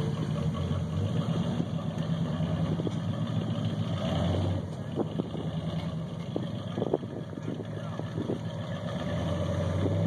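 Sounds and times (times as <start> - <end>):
off-road vehicle engine running: 0.0 - 10.0.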